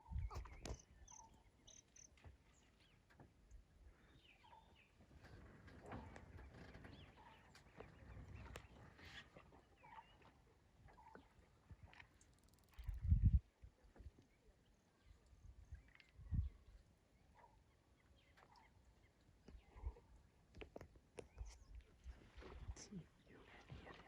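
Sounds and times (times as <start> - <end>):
wild birds chirping: 0.0 - 13.0, 14.2 - 24.0.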